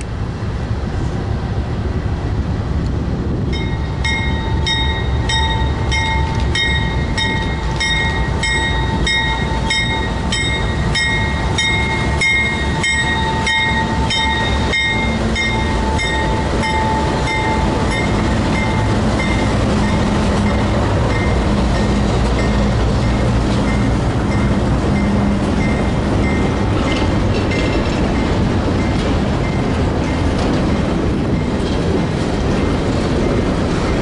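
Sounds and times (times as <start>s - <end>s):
diesel locomotives rumbling past: 0.0s - 34.0s.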